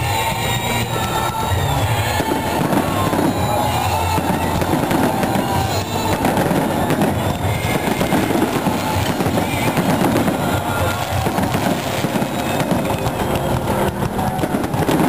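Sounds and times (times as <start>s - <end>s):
fireworks bursting and crackling: 0.0s - 15.0s
music from loudspeakers: 0.0s - 15.0s.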